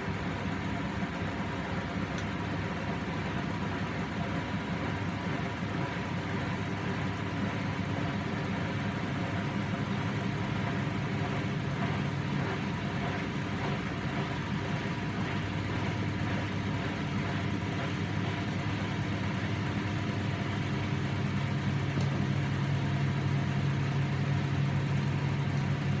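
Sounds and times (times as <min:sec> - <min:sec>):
washing machine motor humming: 0:00.0 - 0:26.0.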